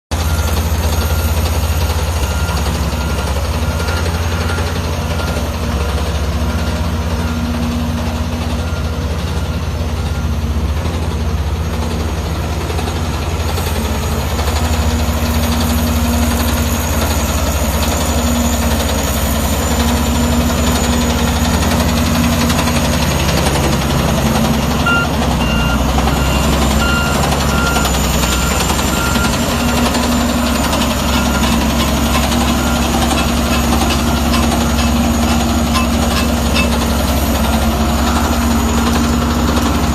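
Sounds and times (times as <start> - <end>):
diesel engine humming: 0.1 - 39.9
reversing alarm beeping: 0.2 - 39.9.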